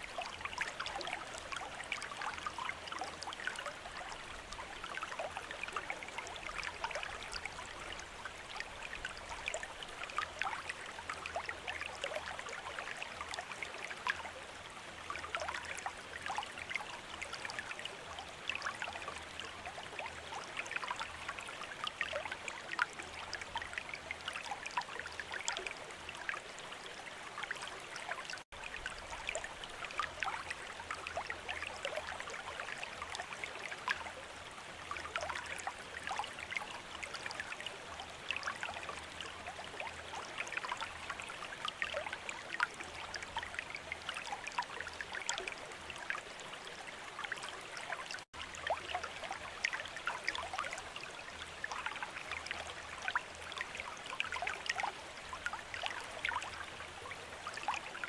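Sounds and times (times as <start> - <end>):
fountain water trickling and splashing: 0.0 - 58.0.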